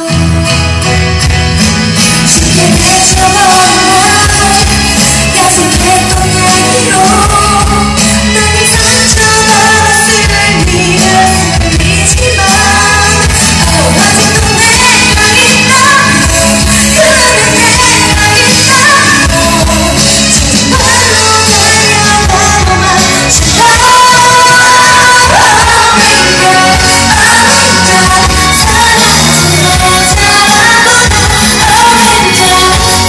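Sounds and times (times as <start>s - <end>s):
musical accompaniment: 0.0s - 33.0s
woman singing into microphone: 2.1s - 33.0s.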